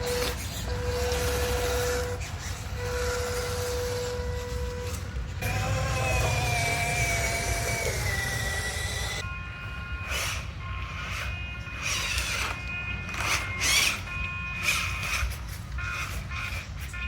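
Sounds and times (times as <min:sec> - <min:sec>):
electric toy truck motors whining: 0:00.0 - 0:09.3, 0:09.9 - 0:17.0.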